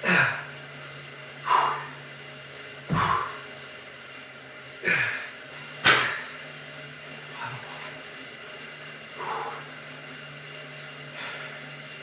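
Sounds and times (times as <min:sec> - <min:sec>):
exercise bike humming: 0:00.0 - 0:12.0.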